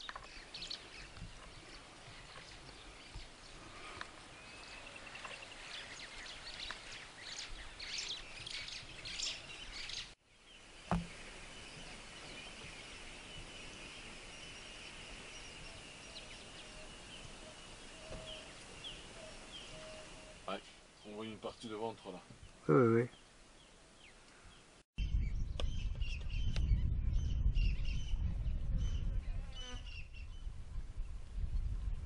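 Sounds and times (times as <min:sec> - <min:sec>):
birds chirping and calling: 0:00.0 - 0:10.2, 0:11.0 - 0:28.2.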